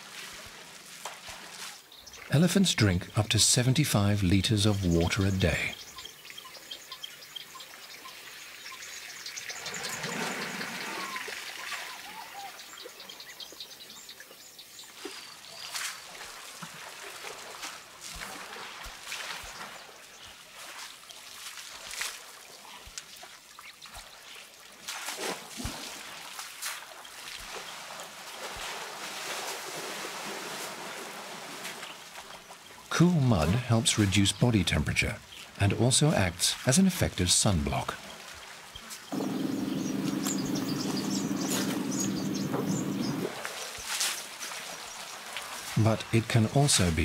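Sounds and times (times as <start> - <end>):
water trickling and splashing: 0.0 - 47.0.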